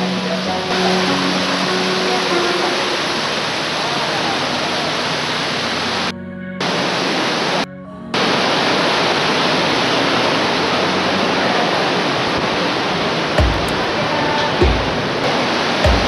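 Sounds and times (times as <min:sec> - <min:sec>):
loud rushing water: 0:00.0 - 0:16.0.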